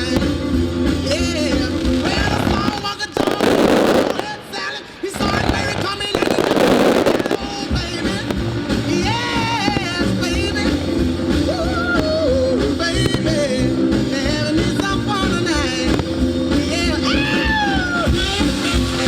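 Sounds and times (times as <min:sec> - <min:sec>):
firework crackle: 0:00.0 - 0:19.0
rock song with singing: 0:00.0 - 0:19.0.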